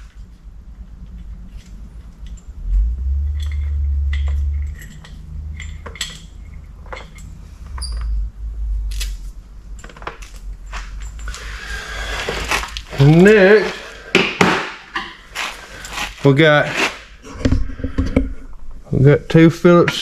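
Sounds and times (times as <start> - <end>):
low rumble: 0.0 - 16.3
metal parts clinking: 0.0 - 16.4.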